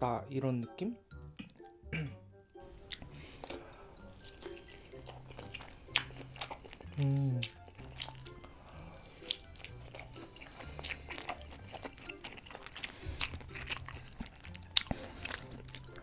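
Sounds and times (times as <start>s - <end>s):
soft background music: 0.0s - 16.0s
wet chewing mouth sounds: 2.8s - 16.0s.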